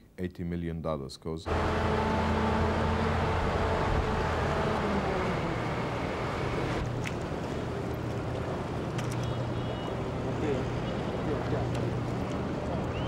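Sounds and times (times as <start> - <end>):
low engine hum: 1.5 - 13.0
sea noise: 1.5 - 13.0
wind: 1.5 - 13.0.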